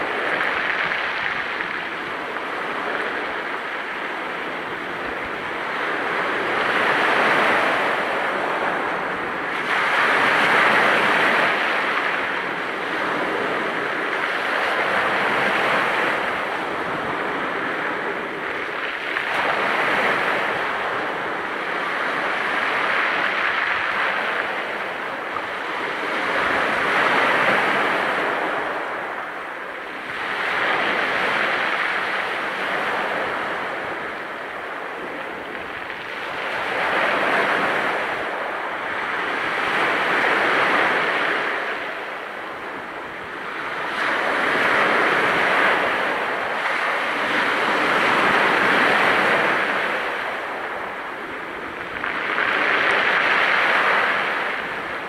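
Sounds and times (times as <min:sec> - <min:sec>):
waves breaking on pebble beach: 0:00.0 - 0:55.0.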